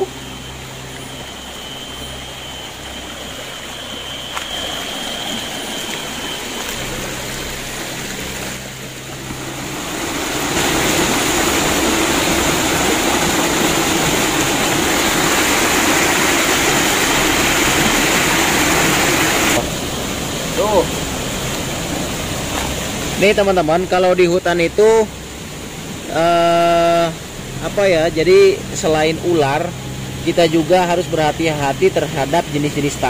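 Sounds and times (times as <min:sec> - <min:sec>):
steady high tone: 0:00.0 - 0:22.4, 0:26.1 - 0:33.0
stream water rushing: 0:00.0 - 0:33.0.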